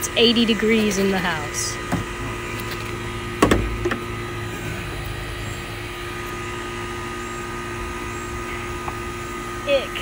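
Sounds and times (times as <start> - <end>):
steady machine drone: 0.0 - 10.0.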